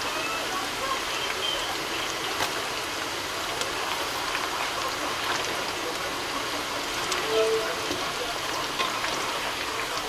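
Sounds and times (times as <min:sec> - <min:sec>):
oil popping and crackling: 0:00.0 - 0:10.0
tofu deep-frying in oil: 0:00.0 - 0:10.0.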